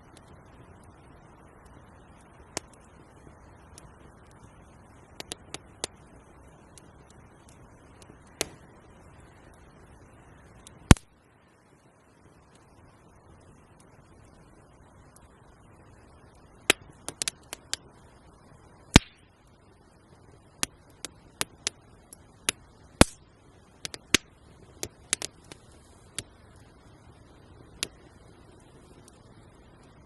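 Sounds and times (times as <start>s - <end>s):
wood campfire crackling: 0.0s - 30.0s.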